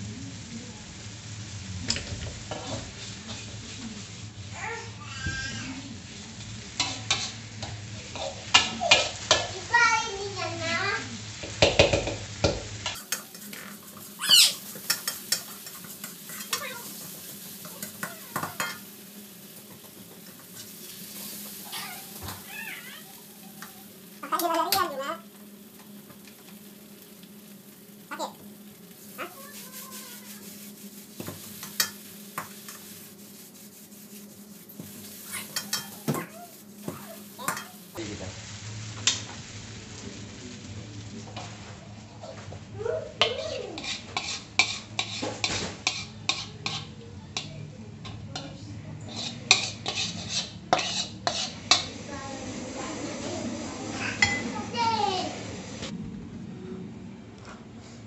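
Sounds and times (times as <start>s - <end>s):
steady sizzle: 0.0s - 56.2s
spatula scraping in a wok: 1.9s - 40.3s, 41.3s - 55.3s.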